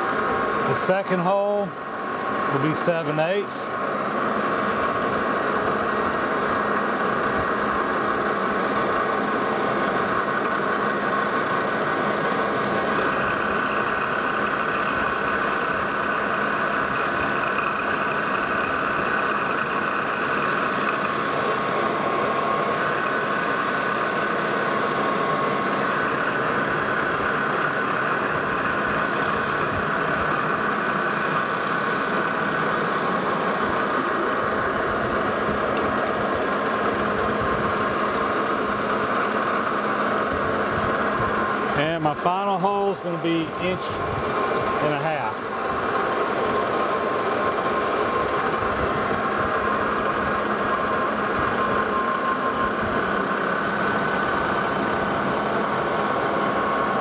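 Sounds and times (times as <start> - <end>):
drill cutting metal whine: 0.0 - 57.0
metal lathe running: 0.0 - 57.0.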